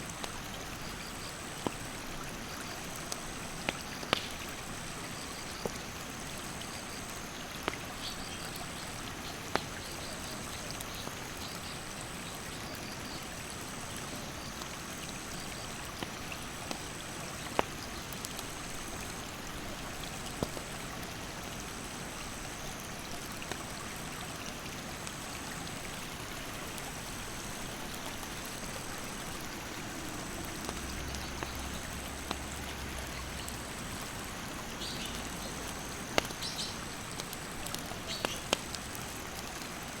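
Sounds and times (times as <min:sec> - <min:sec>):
campfire popping and crackling: 0:00.0 - 0:12.6, 0:13.4 - 0:40.0
mountain stream rushing: 0:00.0 - 0:40.0.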